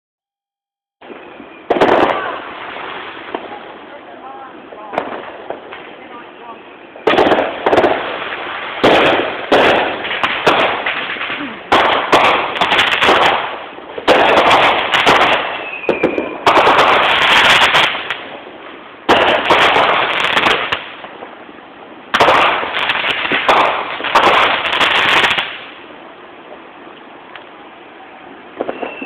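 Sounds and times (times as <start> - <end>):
fireworks booming: 1.0 - 29.0
fireworks crackling: 1.0 - 29.0.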